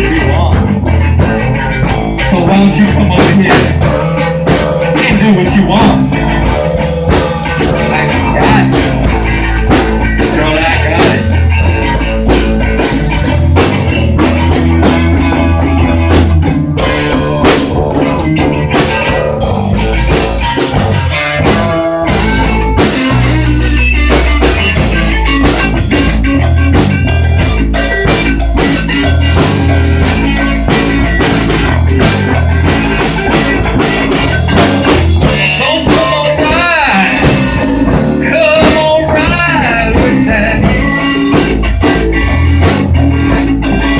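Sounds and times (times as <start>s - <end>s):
drum kit: 0.0s - 43.9s
electric guitar: 0.0s - 43.9s
rock band playing live: 0.0s - 43.9s.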